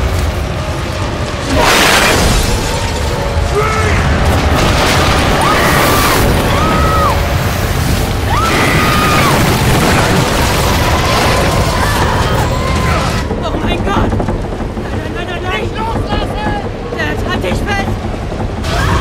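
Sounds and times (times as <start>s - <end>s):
deep rumble: 0.0s - 19.0s
wind and debris rushing: 0.0s - 19.0s.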